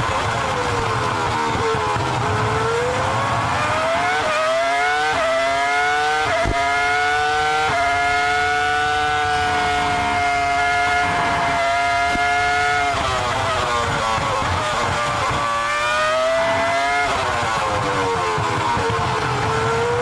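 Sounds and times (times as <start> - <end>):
quick gear upshifts: 0.0 - 20.0
racing car engine accelerating: 0.0 - 20.0.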